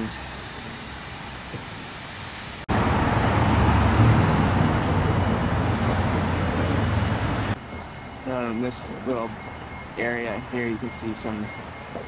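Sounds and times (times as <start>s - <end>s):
road traffic rumble from car: 0.0s - 12.0s.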